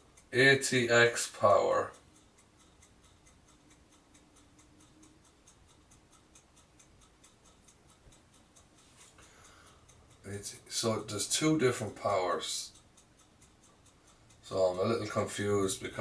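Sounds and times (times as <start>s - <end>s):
faint regular ticking: 0.0s - 16.0s.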